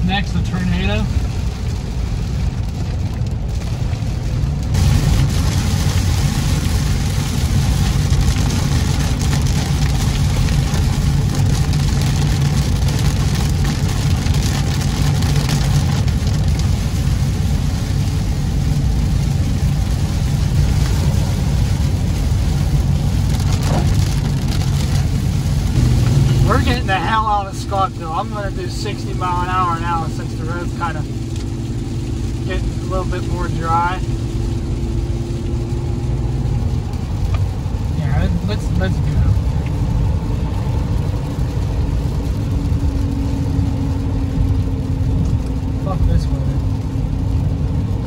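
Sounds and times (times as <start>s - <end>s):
car engine and road drone: 0.0s - 48.0s
rain hissing: 0.0s - 48.0s
wet tyres on road: 0.0s - 48.0s.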